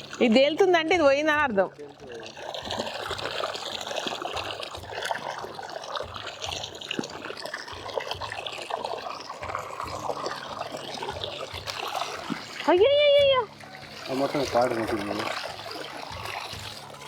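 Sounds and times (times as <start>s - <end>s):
knocks and splashes: 0.0s - 17.0s
water sloshing in a tub: 0.0s - 17.0s.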